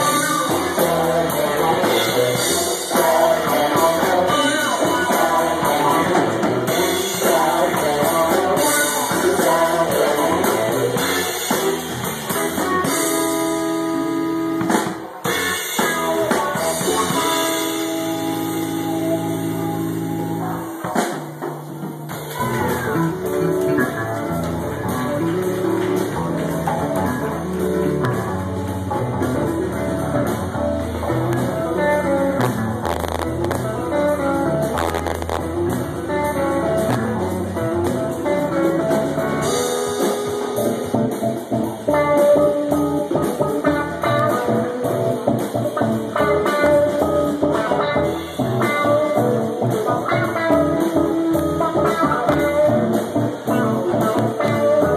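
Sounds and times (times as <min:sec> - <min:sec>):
drum kit with cymbals: 0:00.0 - 0:54.9
electric bass: 0:00.0 - 0:54.9
electric guitar: 0:00.0 - 0:54.9.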